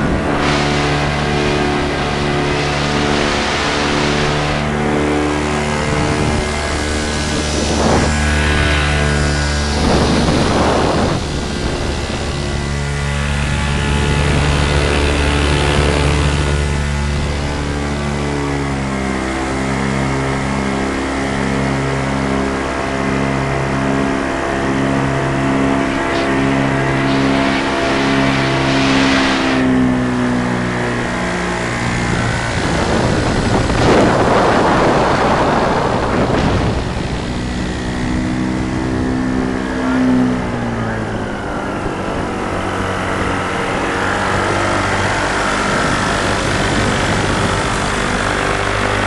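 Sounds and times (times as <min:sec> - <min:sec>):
paramotor engine and propeller: 0:00.0 - 0:49.0.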